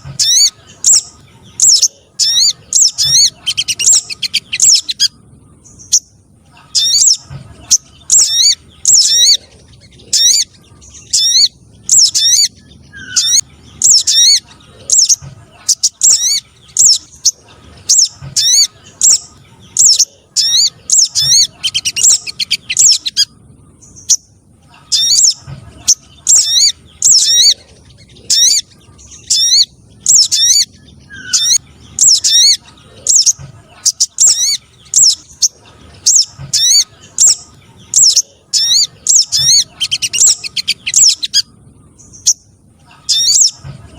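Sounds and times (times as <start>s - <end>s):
recorded bird calls sharp high chirps: 0.0s - 43.8s.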